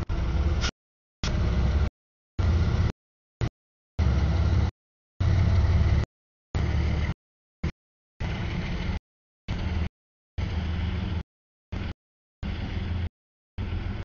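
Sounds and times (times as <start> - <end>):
freight train rumble: 0.0 - 2.9, 4.0 - 7.2, 8.2 - 14.0.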